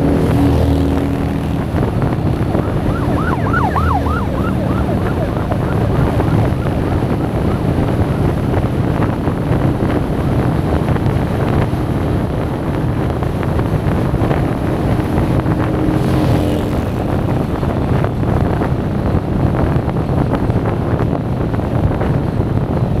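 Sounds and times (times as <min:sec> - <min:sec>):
motorcycle engine cruising: 0:00.0 - 0:23.0
wind buffeting microphone: 0:00.0 - 0:23.0.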